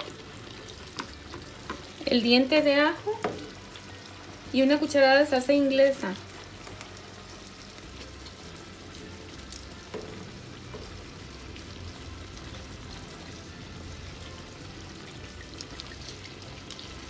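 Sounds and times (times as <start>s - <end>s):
shrimp sizzling in a pan: 0.0s - 17.0s.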